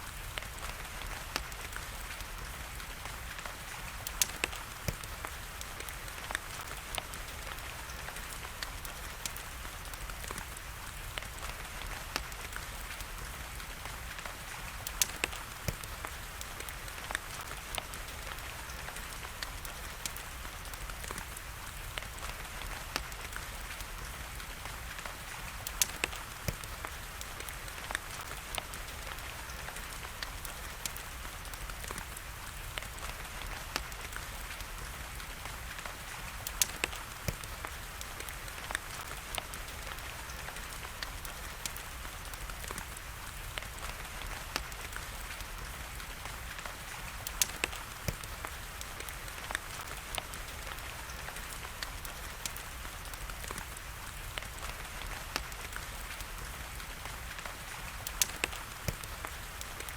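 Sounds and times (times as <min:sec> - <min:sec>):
fire crackling and popping: 0:00.0 - 0:59.9
rain hiss: 0:00.0 - 0:59.9.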